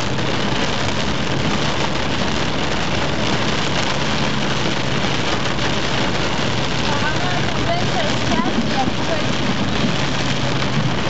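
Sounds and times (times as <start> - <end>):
heavy rain drumming on car roof: 0.0 - 11.0.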